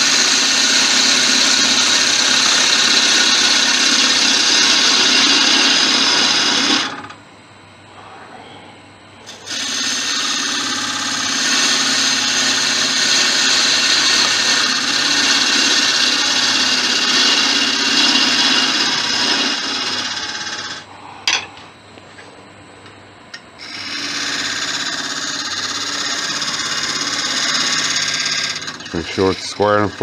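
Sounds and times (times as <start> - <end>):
lathe gouge cutting wood: 0.0 - 7.1, 9.3 - 20.8, 23.6 - 30.0
lathe motor humming: 0.0 - 7.2, 9.3 - 20.9, 23.6 - 30.0.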